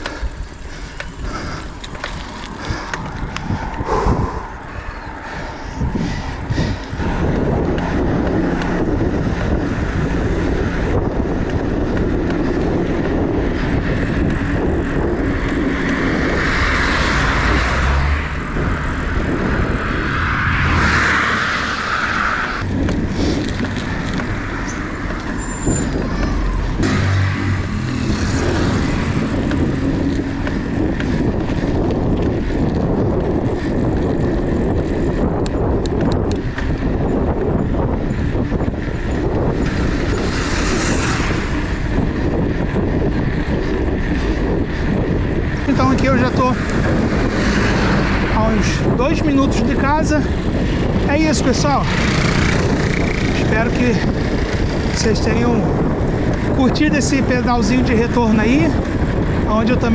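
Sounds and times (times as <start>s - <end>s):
cars passing: 0.0s - 59.9s
wind buffeting microphone: 0.0s - 59.9s.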